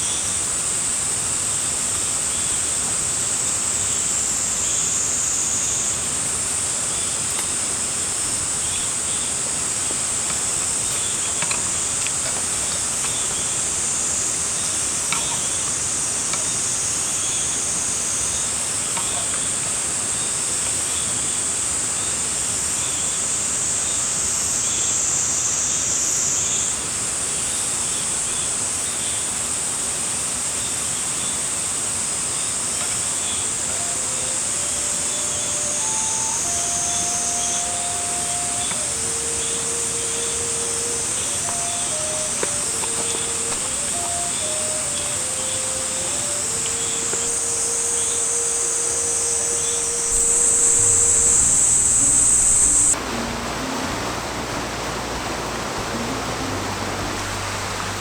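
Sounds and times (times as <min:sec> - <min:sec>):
rain hissing: 0:00.0 - 0:25.1, 0:31.7 - 0:58.0
cicadas droning: 0:00.0 - 0:58.0.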